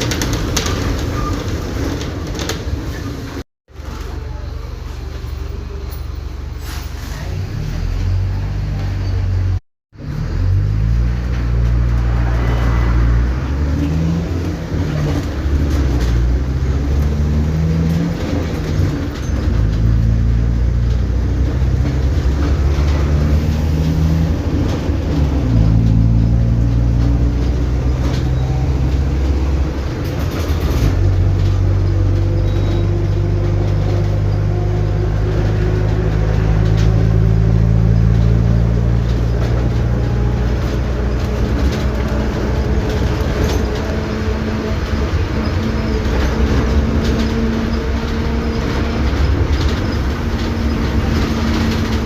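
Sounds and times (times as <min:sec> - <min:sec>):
bus diesel engine accelerating: 0:00.0 - 0:52.0.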